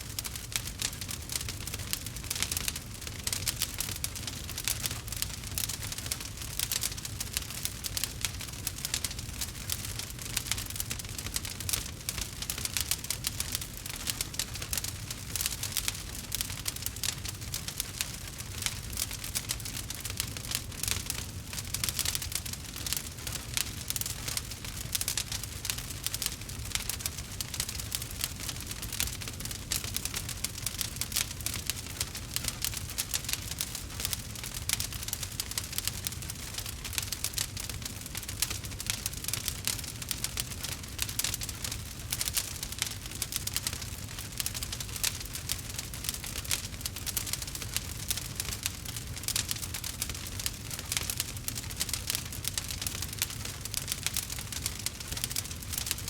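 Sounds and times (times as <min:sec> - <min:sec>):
low rumble of flames: 0:00.0 - 0:56.0
campfire crackling: 0:00.1 - 0:56.0
wood fire popping and snapping: 0:00.1 - 0:56.0.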